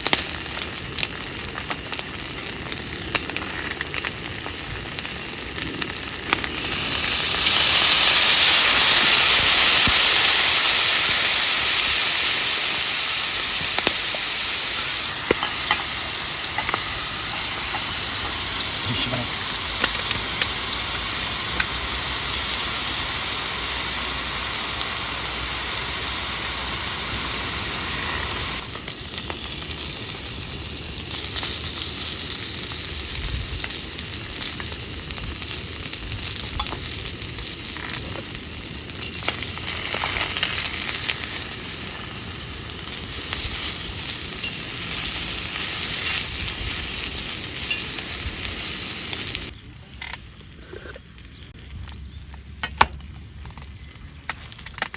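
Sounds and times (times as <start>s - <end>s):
food sizzling in a pan: 0.0s - 49.6s.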